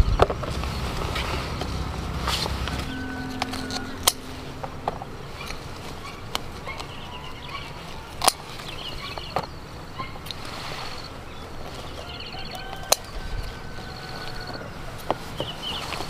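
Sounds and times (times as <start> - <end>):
small birds trilling: 0.0 - 16.0.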